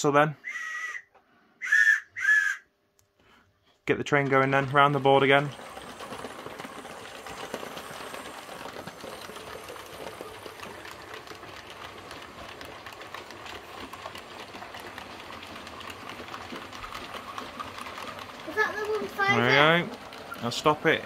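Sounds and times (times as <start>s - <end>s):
model train wheels clicking: 3.8s - 21.0s.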